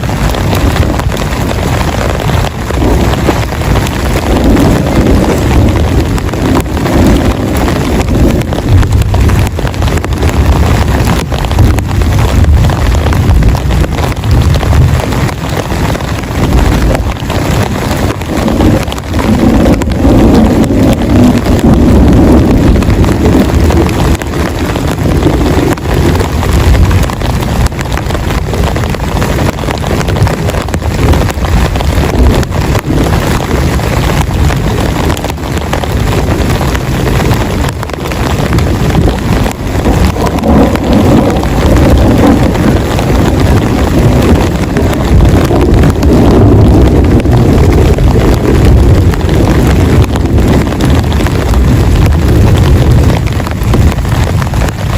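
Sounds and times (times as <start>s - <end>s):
deep rumble: 0.0s - 54.9s
heavy rain on a tent: 0.0s - 54.9s.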